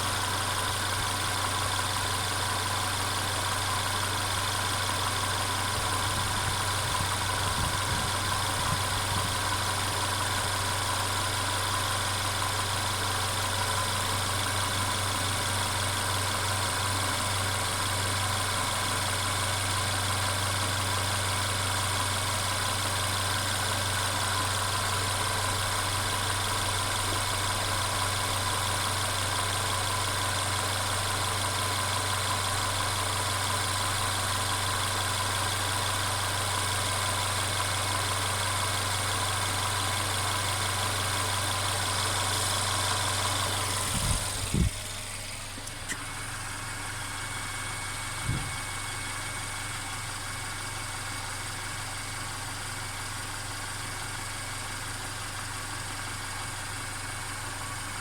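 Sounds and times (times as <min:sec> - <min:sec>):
car engine idling: 0:00.0 - 0:58.0
engine rattling: 0:00.0 - 0:58.0.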